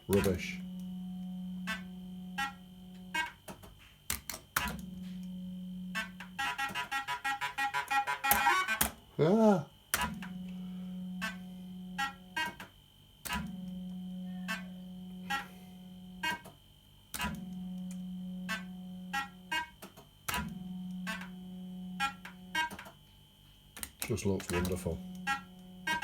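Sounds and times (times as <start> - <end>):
fruit machine hum: 0.0 - 26.0.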